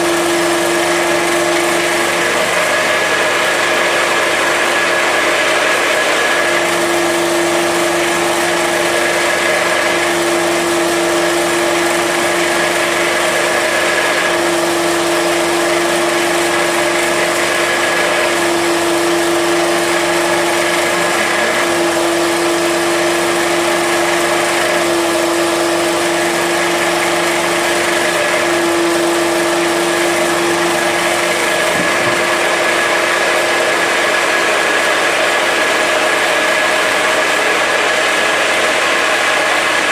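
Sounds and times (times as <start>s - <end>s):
feed pouring into hopper: 0.0s - 39.9s
pellet mill motor humming: 0.0s - 39.9s.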